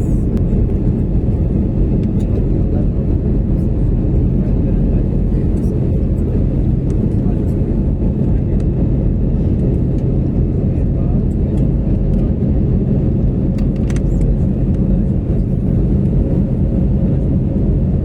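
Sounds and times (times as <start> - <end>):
airliner engines rumbling in cabin: 0.0 - 18.0.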